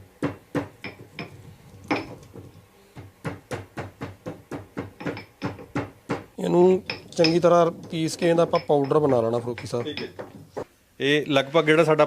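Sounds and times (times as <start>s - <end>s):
pestle pounding in mortar: 0.1s - 10.7s.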